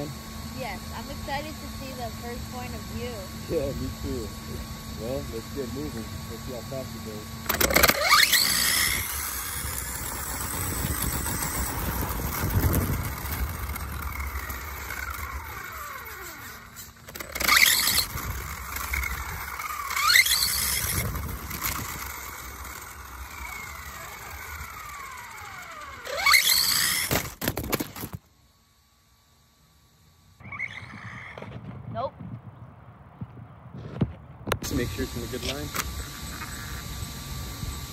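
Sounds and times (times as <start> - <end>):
electric motor whine: 0.0 - 32.1, 33.8 - 37.9
wind: 0.0 - 37.9.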